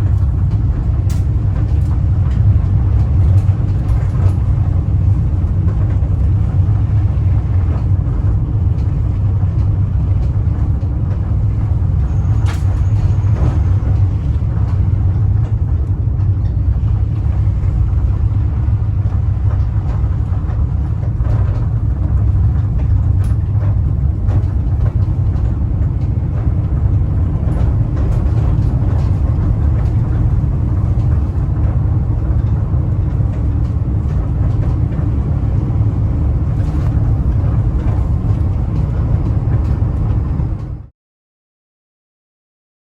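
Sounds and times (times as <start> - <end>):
van engine and road noise: 0.0 - 40.9.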